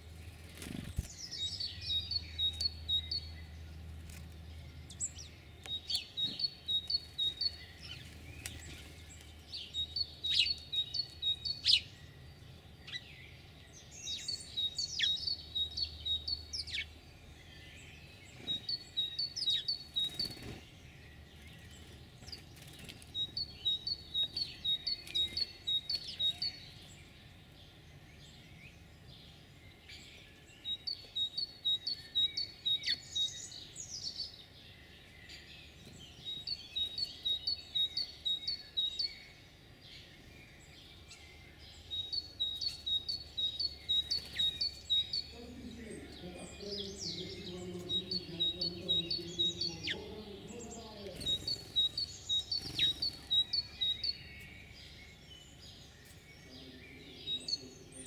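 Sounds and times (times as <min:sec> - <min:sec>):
bird chirps: 0:00.0 - 0:58.0
songbird singing: 0:00.0 - 0:58.0.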